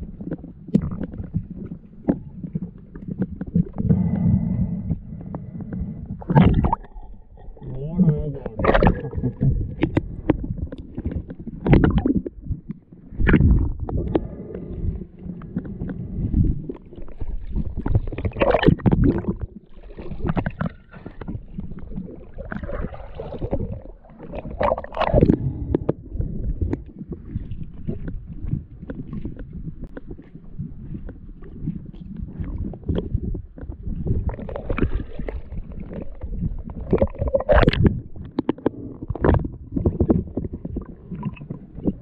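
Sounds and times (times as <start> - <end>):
bubbling surges: 0.0 - 42.0
water sloshing and gurgling: 0.0 - 42.0.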